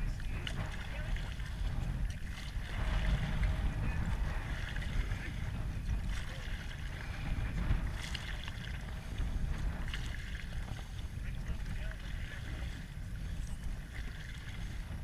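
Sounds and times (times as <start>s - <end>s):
river water flowing: 0.0s - 15.0s
wind rumbling on microphone: 0.0s - 15.0s.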